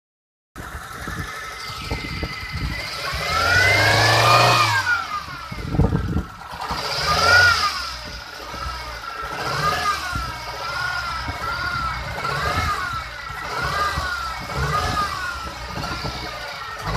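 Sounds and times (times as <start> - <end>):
car engine misfiring and revving: 0.6 - 16.9.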